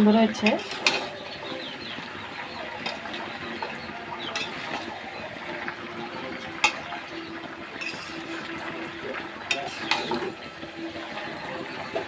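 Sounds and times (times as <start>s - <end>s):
spatula stirring curry: 0.4s - 12.0s.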